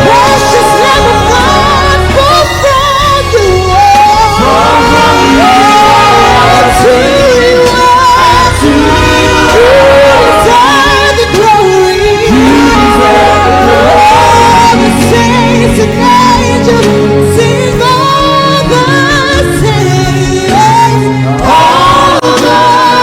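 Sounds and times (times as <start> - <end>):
gospel singing with band: 0.0 - 23.0.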